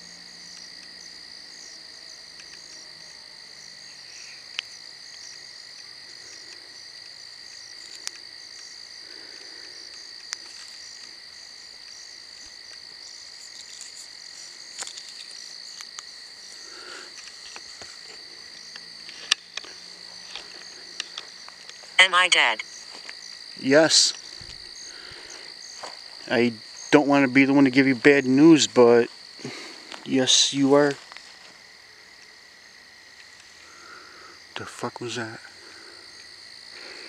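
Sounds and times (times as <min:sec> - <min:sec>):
frogs and insects trilling: 0:00.0 - 0:37.0.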